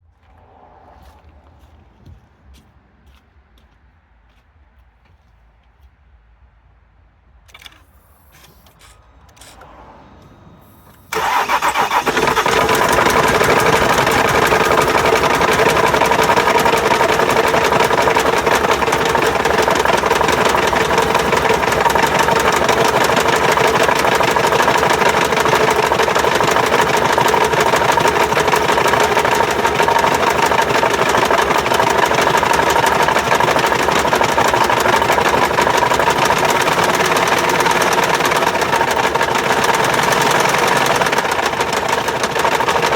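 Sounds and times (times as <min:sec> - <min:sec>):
diesel engine idling with clatter: 0:07.5 - 0:42.9.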